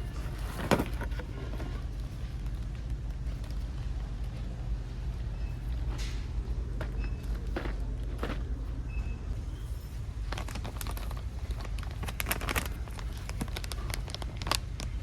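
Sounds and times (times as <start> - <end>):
rapid clicks and crinkling rustles: 0.0 - 8.8, 9.8 - 15.0
steady low hum: 0.0 - 15.0.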